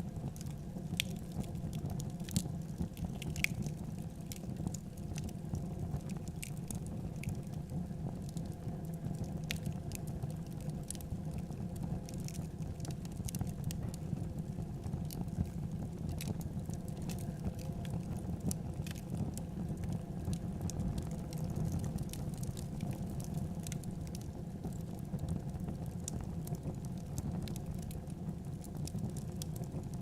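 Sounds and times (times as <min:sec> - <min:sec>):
fire crackles and pops: 0:00.0 - 0:30.0
fireplace fire rumble: 0:00.0 - 0:30.0.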